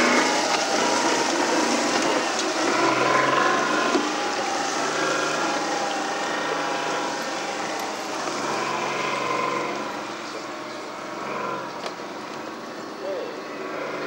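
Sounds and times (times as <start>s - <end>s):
tracked vehicle engine running: 0.0s - 14.0s
vehicle tracks clanking: 0.0s - 14.0s.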